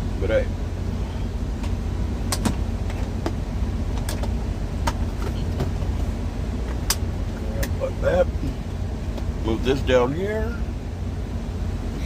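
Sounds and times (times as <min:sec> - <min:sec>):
truck idling: 0:00.0 - 0:12.0.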